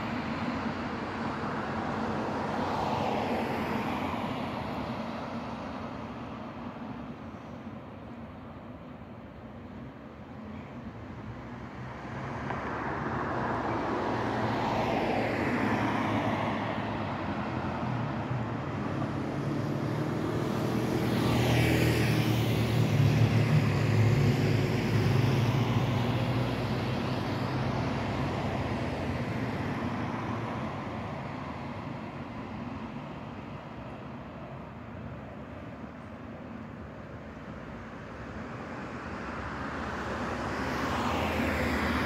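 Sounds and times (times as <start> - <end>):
passing vehicle engine hum: 0.0 - 42.0.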